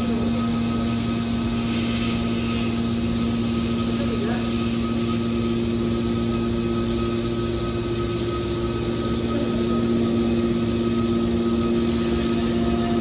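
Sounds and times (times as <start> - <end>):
baling press machine hum: 0.0 - 13.0.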